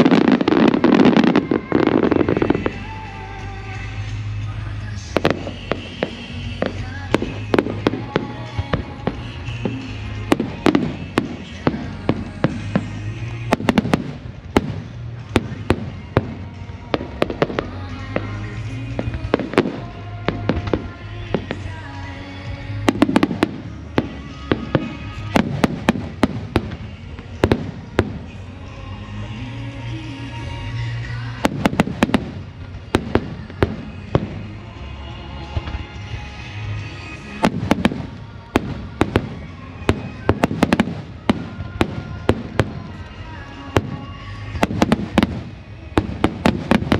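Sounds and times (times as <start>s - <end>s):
fireworks cracking and banging: 0.0s - 46.9s
music playing: 0.0s - 46.9s.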